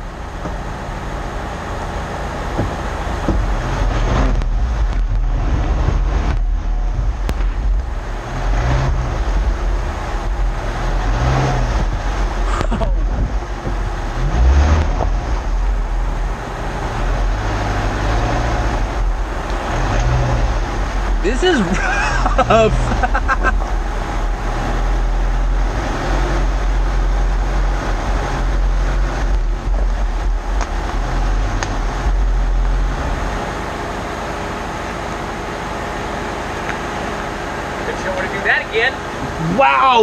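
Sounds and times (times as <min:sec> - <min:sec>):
car engine revving: 0:00.0 - 0:40.0
tyres rumbling on dirt trail: 0:00.0 - 0:40.0.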